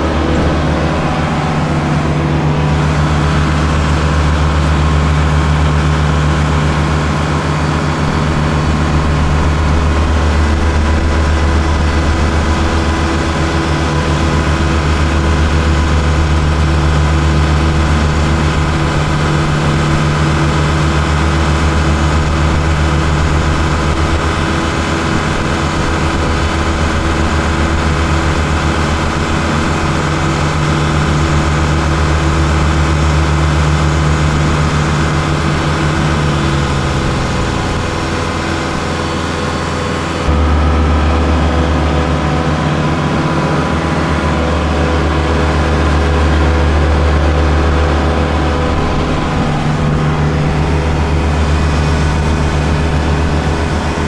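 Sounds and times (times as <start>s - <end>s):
tractor diesel engine humming: 0.0s - 54.0s.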